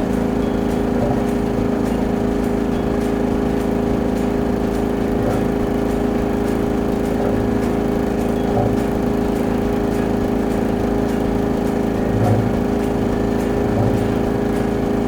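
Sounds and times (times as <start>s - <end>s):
drain-jetting machine engine running: 0.0s - 15.0s.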